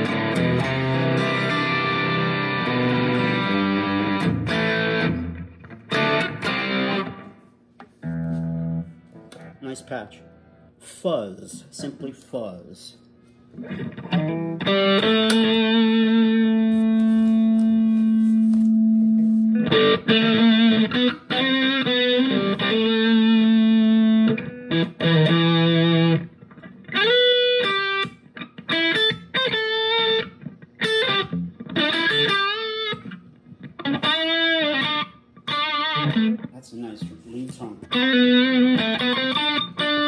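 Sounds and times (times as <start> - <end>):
fuzz electric guitar: 0.0 - 9.6, 13.5 - 36.6, 37.8 - 40.0.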